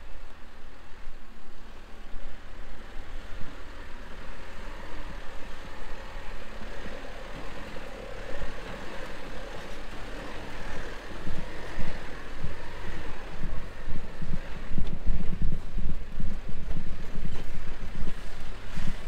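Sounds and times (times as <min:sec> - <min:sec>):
wind buffeting microphone: 0:00.1 - 0:19.0.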